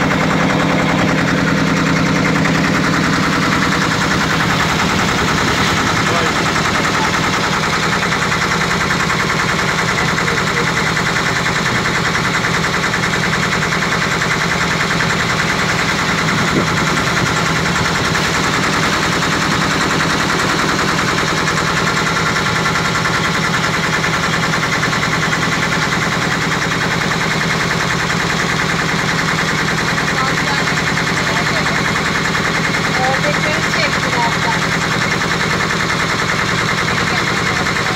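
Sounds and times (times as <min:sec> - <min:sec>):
boat engine chugging: 0:00.0 - 0:37.9.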